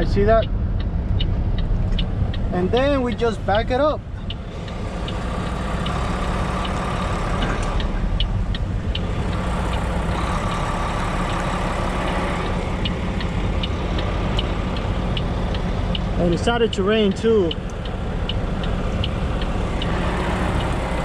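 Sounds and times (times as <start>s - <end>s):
diesel truck engine running: 0.0s - 21.0s
light irregular ticks: 0.4s - 21.0s.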